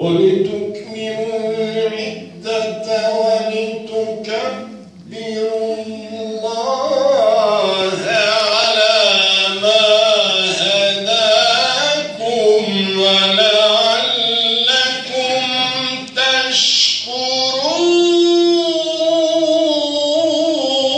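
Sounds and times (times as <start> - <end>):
man chanting melodically: 0.0 - 20.9.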